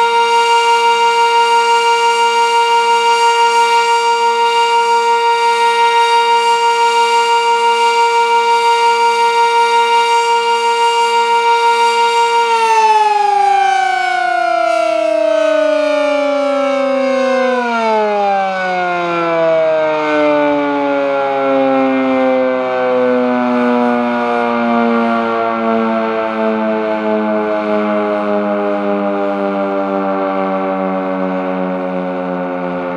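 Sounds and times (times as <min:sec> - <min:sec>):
civil defense siren: 0:00.0 - 0:32.9.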